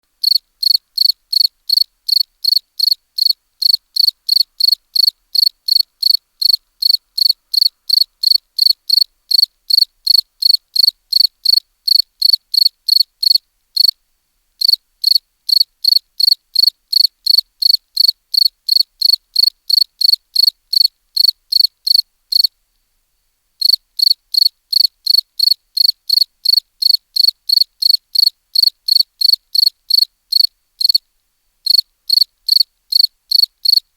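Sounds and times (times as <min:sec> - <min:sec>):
cricket chirping: 0:00.2 - 0:14.0, 0:14.6 - 0:22.5, 0:23.6 - 0:33.9.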